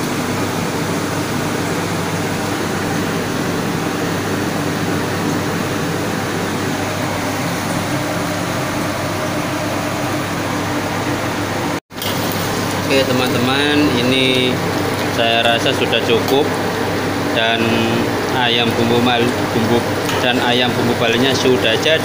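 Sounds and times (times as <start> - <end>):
gas burner rushing: 0.0 - 22.0.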